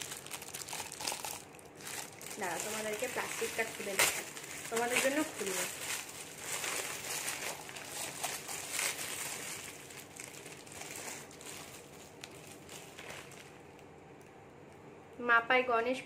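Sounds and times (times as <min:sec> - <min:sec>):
plastic wrapping crinkling: 0:00.0 - 0:14.8.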